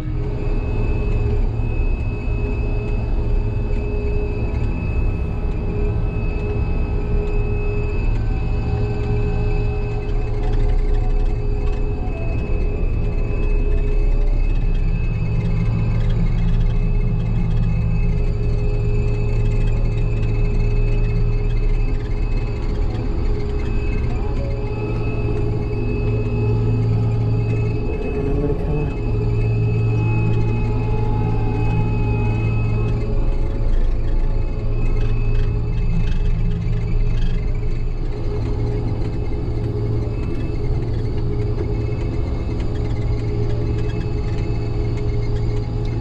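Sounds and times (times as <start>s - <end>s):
combine harvester engine droning: 0.0s - 46.0s
thin high whine: 0.0s - 46.0s.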